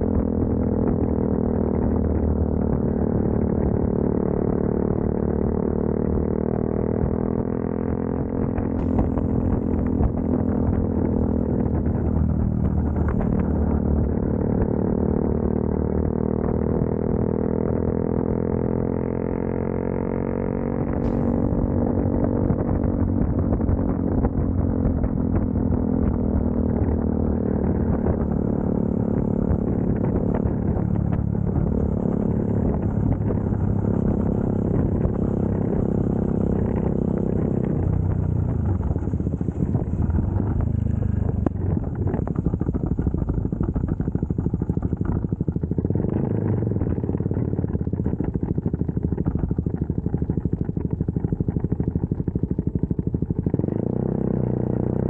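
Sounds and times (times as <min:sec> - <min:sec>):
motorcycle engine slowing down: 0:00.0 - 0:55.0.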